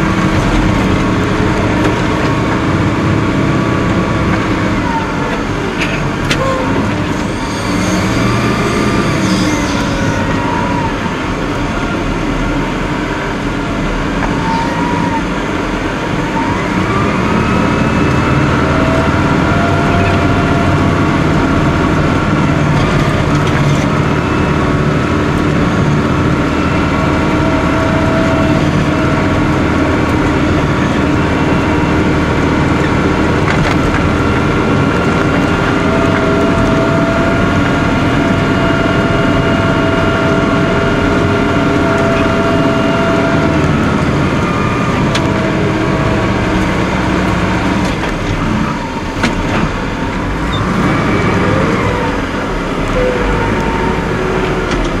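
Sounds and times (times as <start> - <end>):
diesel engine running: 0.0 - 55.0
machine whine: 0.0 - 55.0.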